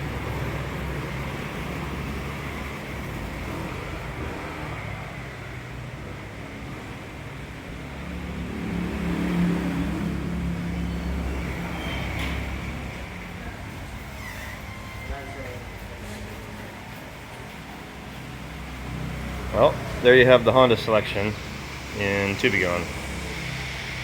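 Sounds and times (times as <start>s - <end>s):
motor vehicle engine rumble: 0.0s - 24.0s.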